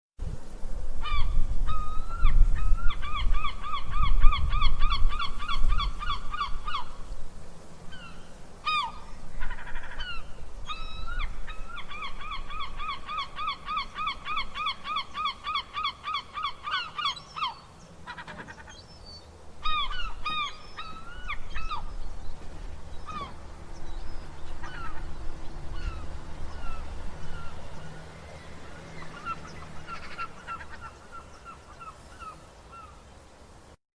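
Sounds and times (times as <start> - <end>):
gulls calling: 1.0 - 7.2, 7.8 - 33.2.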